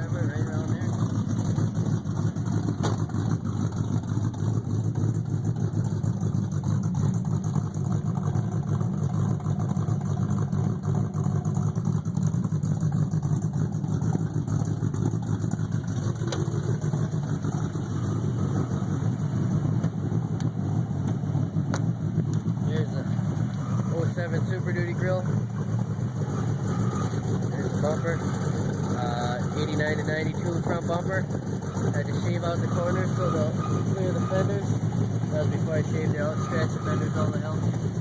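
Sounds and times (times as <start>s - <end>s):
vee eight engine idling: 0.0s - 38.0s.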